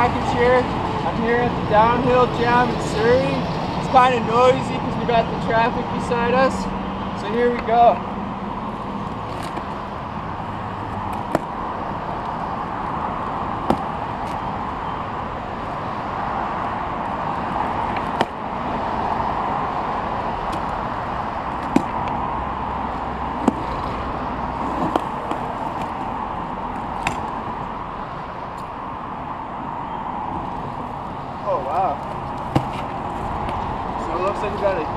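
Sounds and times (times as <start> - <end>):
road traffic hiss: 0.0 - 34.9.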